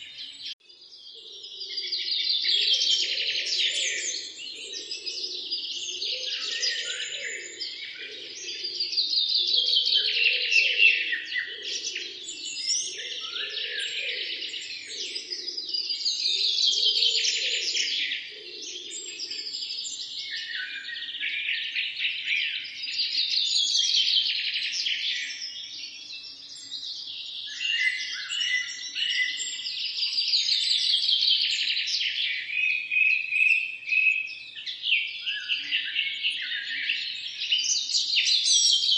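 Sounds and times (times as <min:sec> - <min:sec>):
bird chirps: 0:00.0 - 0:38.9
songbirds trilling: 0:00.0 - 0:38.9.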